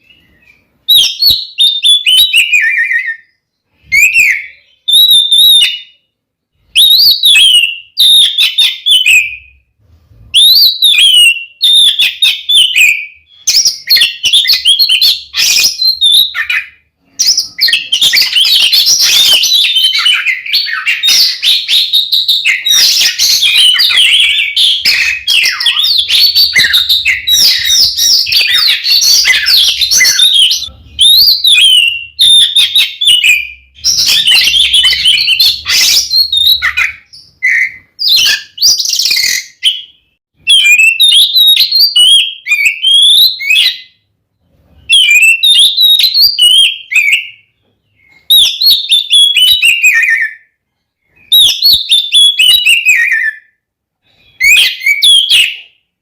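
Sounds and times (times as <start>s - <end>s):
bird singing whistled phrases: 0.0s - 6.1s, 6.7s - 9.6s, 10.4s - 44.0s, 44.8s - 50.5s, 51.1s - 53.5s, 54.2s - 55.7s.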